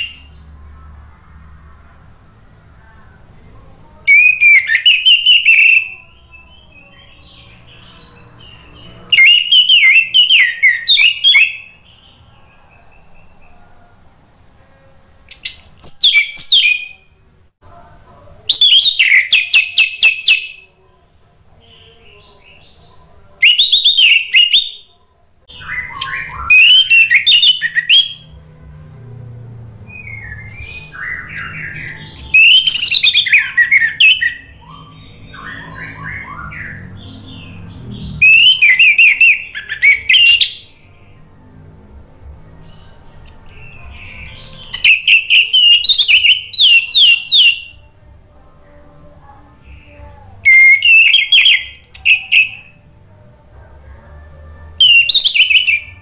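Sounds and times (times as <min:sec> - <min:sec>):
thrush singing warbling phrases: 0:00.0 - 0:17.3, 0:18.4 - 0:56.0.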